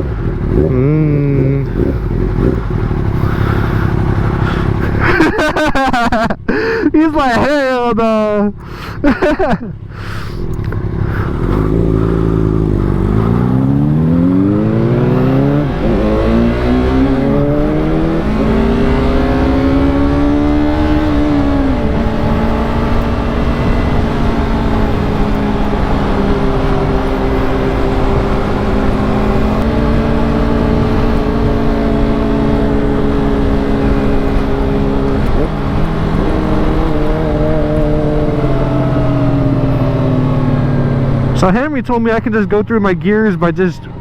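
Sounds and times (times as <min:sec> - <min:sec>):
motorcycle engine under way: 0:00.0 - 0:06.3, 0:08.6 - 0:42.4
wind and road noise: 0:00.0 - 0:44.0.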